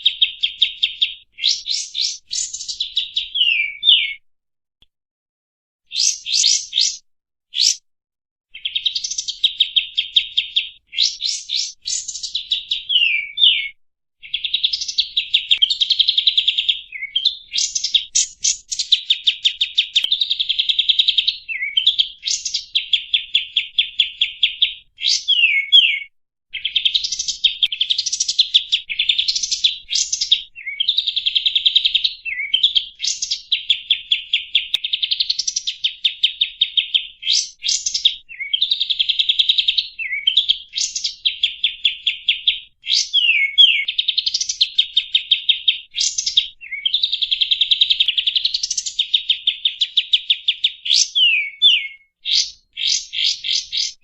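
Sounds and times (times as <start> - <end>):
recorded songbird trills and whistles: 0.0 - 4.3, 5.9 - 7.8, 8.5 - 54.0.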